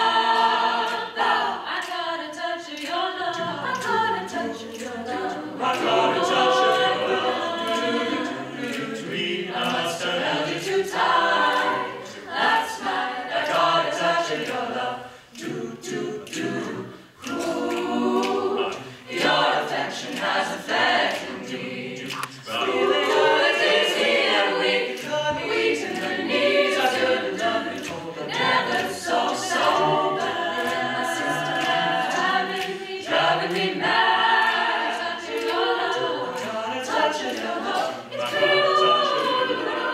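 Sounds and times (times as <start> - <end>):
a cappella group singing in harmony: 0.0 - 39.9.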